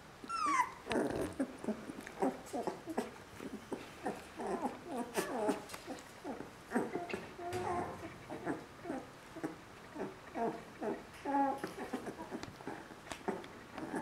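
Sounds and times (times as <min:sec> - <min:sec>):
puppies whining and squeaking: 0:00.2 - 0:14.0.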